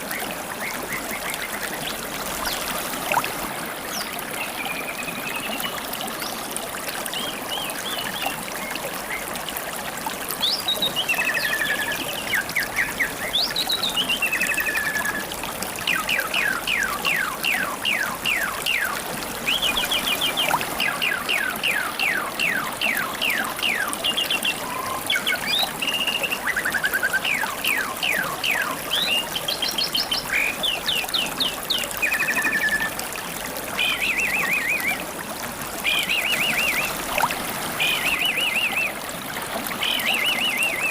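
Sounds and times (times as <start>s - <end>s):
songbirds singing: 0.0s - 9.4s, 10.3s - 33.1s, 33.8s - 35.1s, 35.8s - 40.9s
river water babbling: 0.0s - 40.9s.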